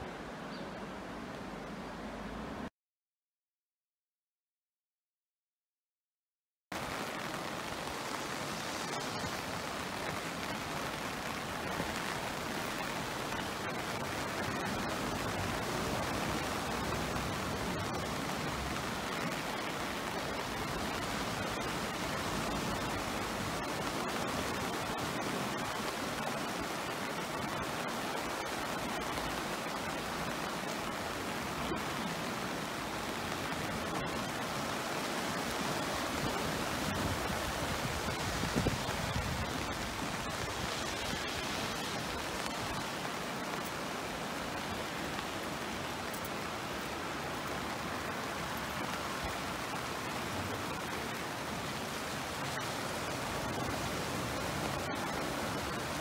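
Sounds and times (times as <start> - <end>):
river in flood rushing: 6.8 - 56.0.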